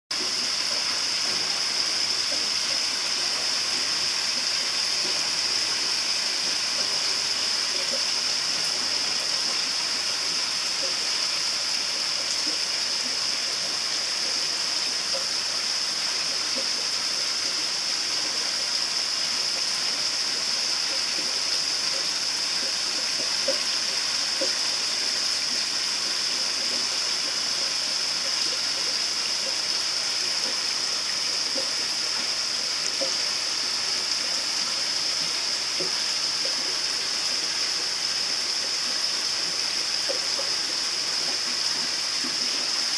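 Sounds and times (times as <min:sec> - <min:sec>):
water pouring into pond: 0:00.2 - 0:42.9.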